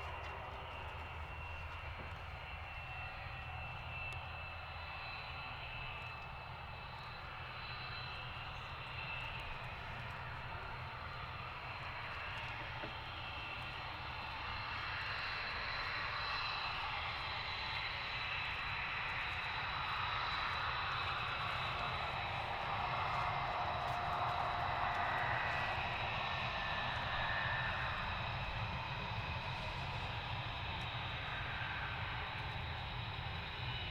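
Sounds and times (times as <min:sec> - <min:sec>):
aircraft engines whining: 0:00.0 - 0:33.9.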